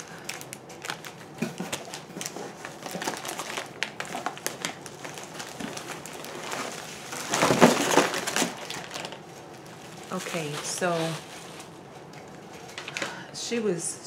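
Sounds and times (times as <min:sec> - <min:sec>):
cellophane crinkling: 0:00.0 - 0:13.2.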